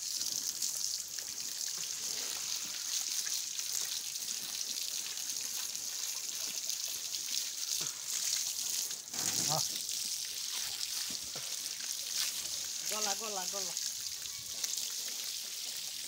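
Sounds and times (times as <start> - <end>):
hose water spraying: 0.0 - 16.0.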